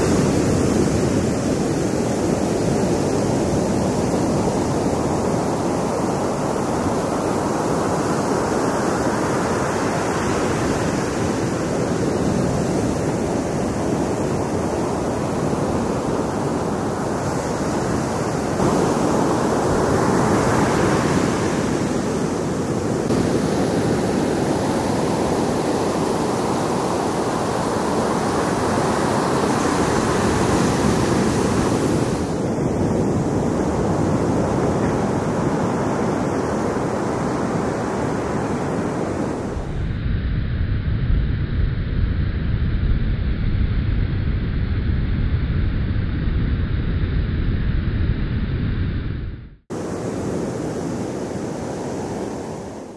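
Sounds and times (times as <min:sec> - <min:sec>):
ocean surf washing up beach: 0:00.0 - 0:39.8, 0:49.7 - 0:52.9.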